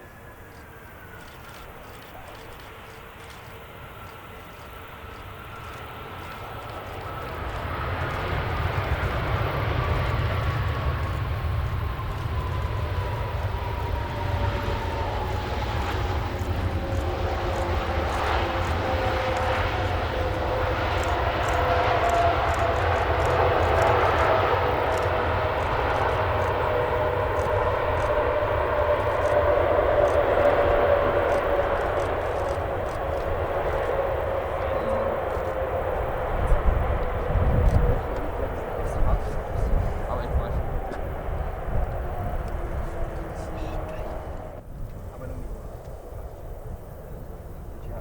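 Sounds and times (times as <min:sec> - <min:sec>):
whining engine tone: 0:00.0 - 0:46.8
jet airliner engines roaring: 0:00.0 - 0:48.0
low rumble: 0:05.2 - 0:48.0.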